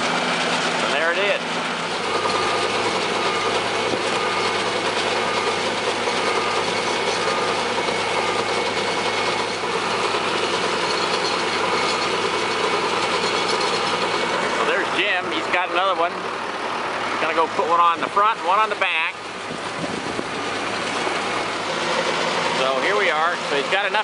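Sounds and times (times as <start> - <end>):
baler machinery working: 0.0 - 24.0
tractor engine running: 0.0 - 24.0.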